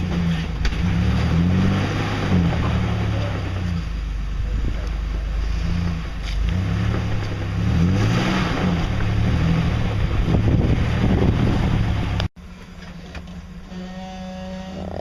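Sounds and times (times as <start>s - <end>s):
engine revving: 0.0s - 12.3s.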